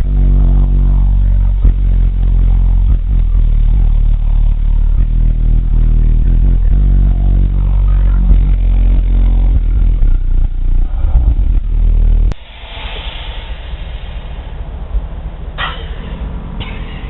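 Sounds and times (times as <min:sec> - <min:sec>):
deep bass from subwoofers: 0:00.0 - 0:17.0.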